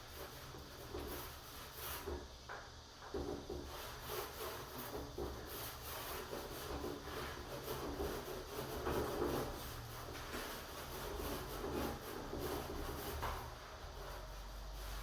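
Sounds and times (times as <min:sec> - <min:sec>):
rubbing strokes on wooden door: 0:00.0 - 0:15.0.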